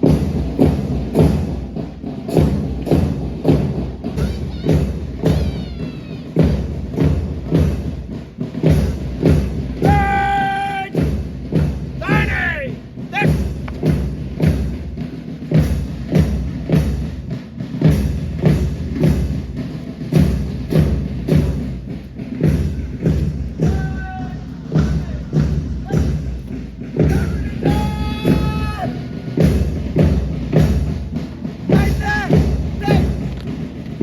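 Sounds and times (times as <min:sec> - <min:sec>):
marching drum beating: 0:00.0 - 0:34.0.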